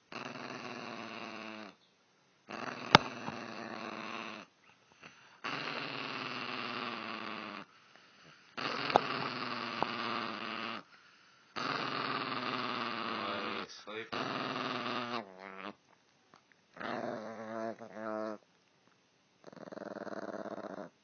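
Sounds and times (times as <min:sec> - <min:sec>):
dog growling: 0:00.0 - 0:01.8, 0:02.5 - 0:10.9, 0:11.5 - 0:15.8, 0:16.7 - 0:18.4, 0:19.4 - 0:21.0.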